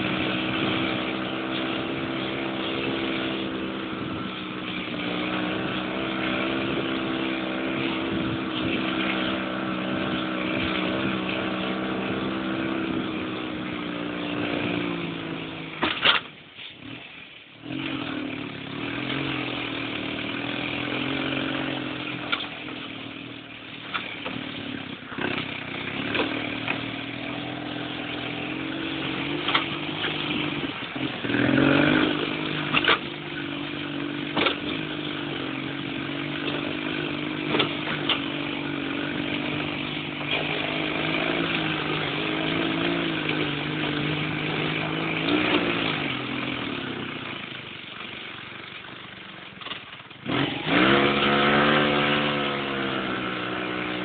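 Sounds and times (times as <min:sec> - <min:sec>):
buggy engine running: 0:00.0 - 0:54.0.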